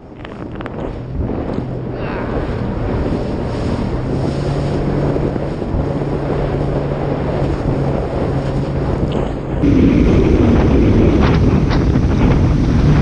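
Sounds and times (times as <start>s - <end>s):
choppy water rushing: 0.0s - 13.0s
jet ski engine running: 0.0s - 13.0s
wind noise on microphone: 0.0s - 13.0s.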